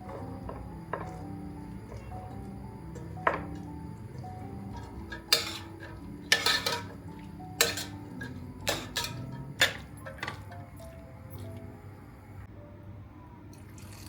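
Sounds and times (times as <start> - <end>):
dishes and utensils clinking: 0.0 - 11.6
soft background music: 0.0 - 14.0.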